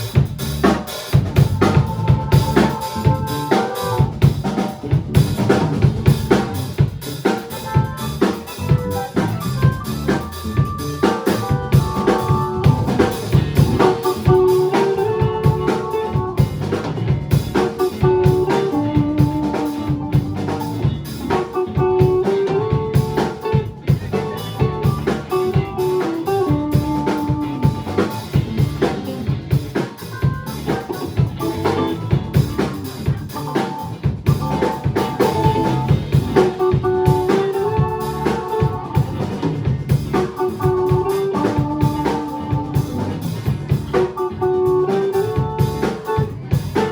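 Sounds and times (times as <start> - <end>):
band playing live: 0.0 - 46.9
drum kit beat: 0.0 - 46.9.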